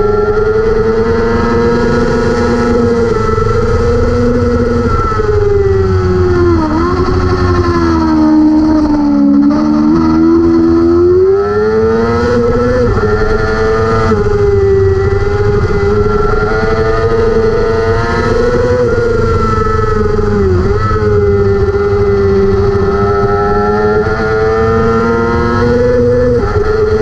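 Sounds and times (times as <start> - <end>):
racing motorcycle engine high revs: 0.0 - 27.0.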